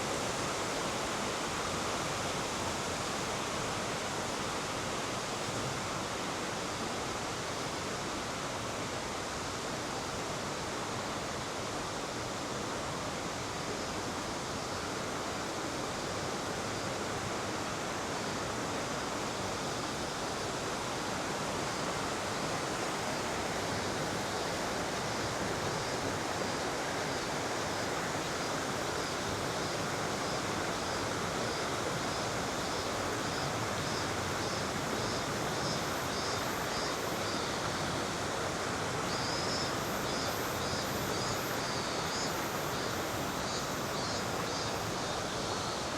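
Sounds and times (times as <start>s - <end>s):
mountain river flowing: 0.0s - 45.9s.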